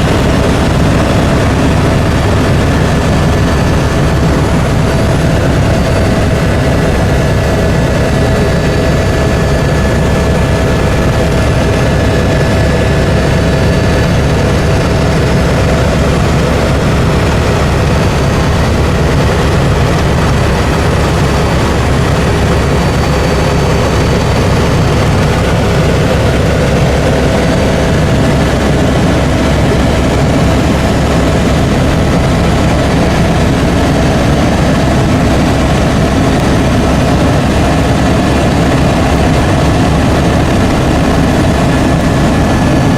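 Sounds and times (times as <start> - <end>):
constant whine: 0.0 - 42.9
helicopter rotor and turbine drone: 0.0 - 42.9.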